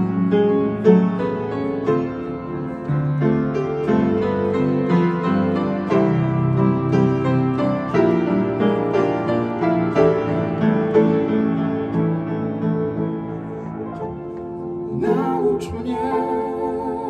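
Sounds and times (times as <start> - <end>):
piano and keyboard chords: 0.0 - 17.0.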